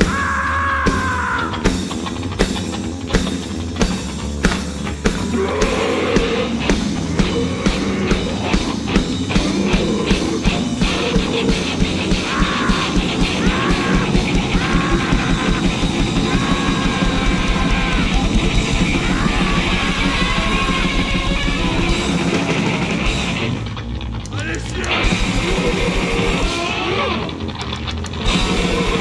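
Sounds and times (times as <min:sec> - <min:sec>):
harsh yelled vocals: 0:00.0 - 0:01.8, 0:05.1 - 0:23.0, 0:24.3 - 0:27.4, 0:28.3 - 0:29.0
fast drumming: 0:00.0 - 0:23.6, 0:24.3 - 0:26.7, 0:28.2 - 0:29.0
distorted noise music: 0:00.0 - 0:29.0.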